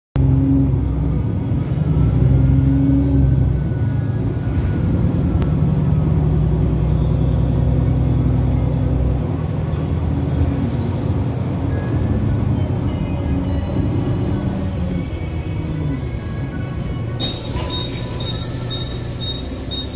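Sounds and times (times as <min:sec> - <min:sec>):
bus diesel engine running: 0:00.2 - 0:19.9
road and tyre noise: 0:00.2 - 0:19.9.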